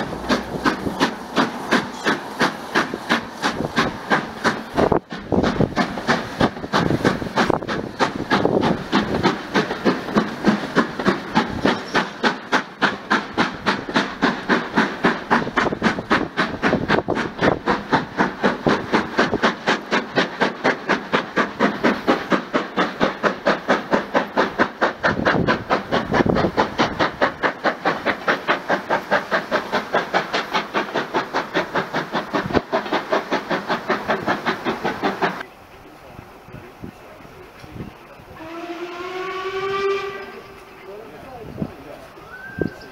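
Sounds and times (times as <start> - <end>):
steam hiss: 0.0 - 42.9
steam locomotive chuffing: 0.0 - 42.9.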